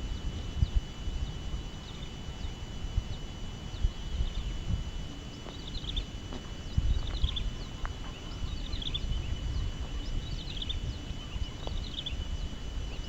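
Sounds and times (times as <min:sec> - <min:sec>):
high insect-like whine: 0:00.0 - 0:13.0
wind buffeting microphone: 0:00.0 - 0:13.0.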